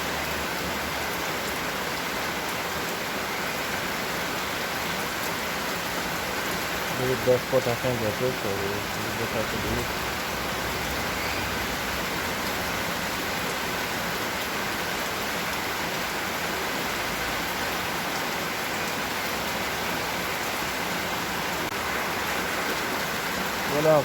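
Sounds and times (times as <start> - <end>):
rain pattering: 0.1 - 24.0.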